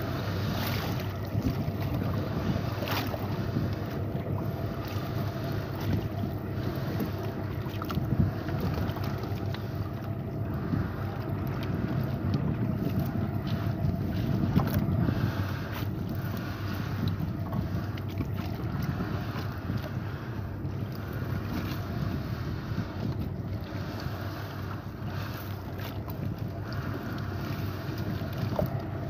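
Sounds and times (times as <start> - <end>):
water noise: 0.0 - 29.0
wind buffeting microphone: 0.0 - 29.0.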